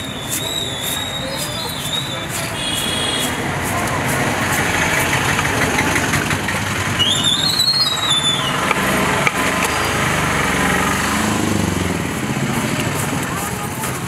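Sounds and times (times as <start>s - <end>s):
motor vehicle engines running: 0.0s - 14.0s.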